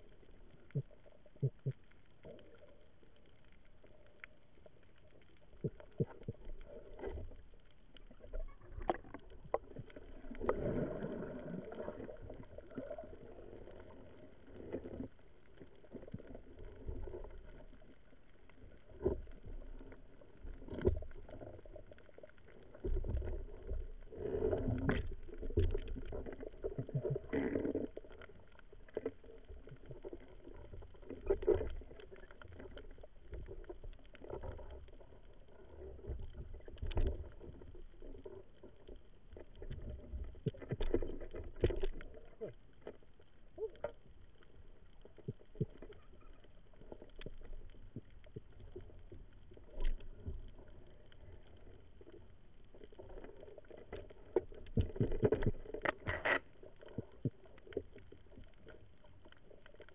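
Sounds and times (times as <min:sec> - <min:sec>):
muffled underwater rumble: 0:00.0 - 0:59.9.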